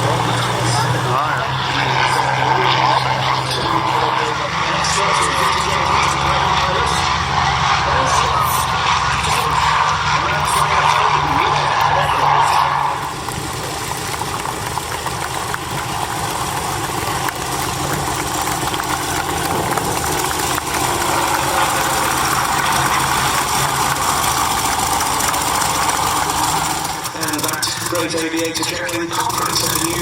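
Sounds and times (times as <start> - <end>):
piston aircraft engine running: 0.0 - 30.0.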